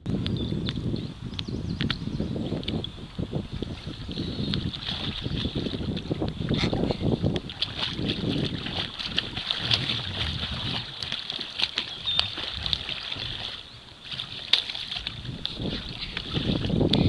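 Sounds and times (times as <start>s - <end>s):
water splashing and sloshing: 1.8s - 17.0s.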